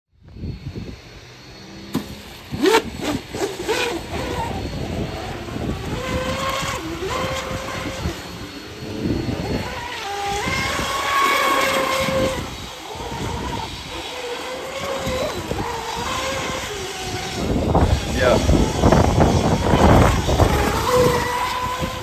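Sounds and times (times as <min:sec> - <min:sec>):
electric boat motor whining: 0:00.2 - 0:22.0.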